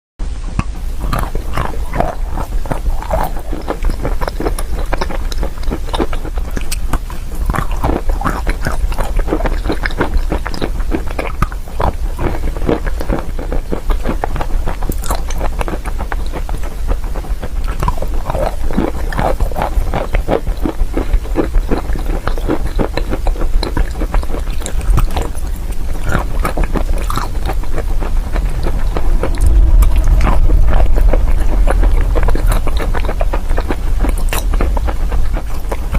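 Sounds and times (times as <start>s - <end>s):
steady low rumble: 0.2s - 35.9s
chewing chalk: 0.6s - 35.9s.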